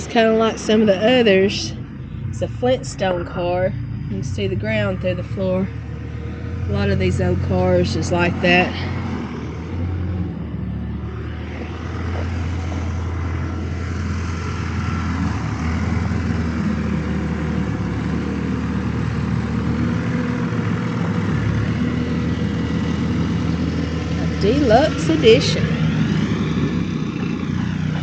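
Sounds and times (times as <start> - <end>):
vehicle engine droning: 0.0 - 28.0.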